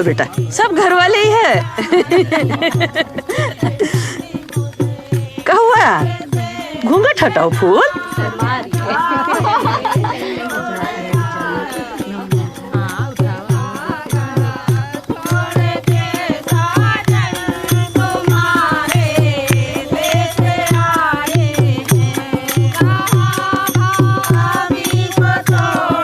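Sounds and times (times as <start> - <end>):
song with drums and percussion: 0.0 - 26.0.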